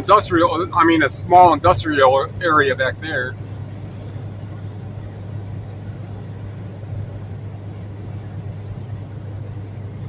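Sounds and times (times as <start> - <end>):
car engine hum from cabin: 0.0 - 10.0.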